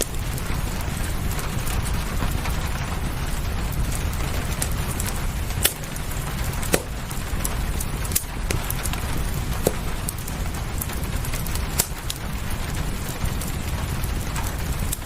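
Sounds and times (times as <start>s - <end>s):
fireplace crackling: 0.0s - 15.0s
rain hissing: 0.0s - 15.0s.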